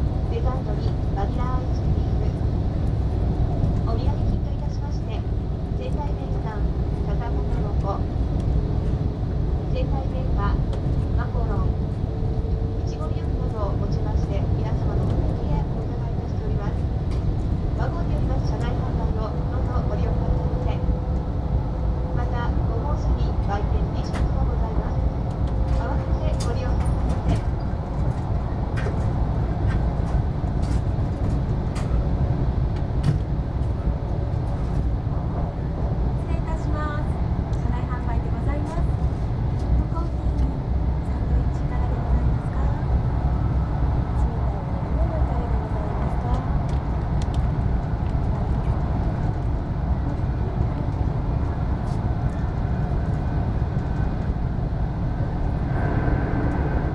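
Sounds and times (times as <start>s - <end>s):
train low rumble: 0.0s - 56.9s.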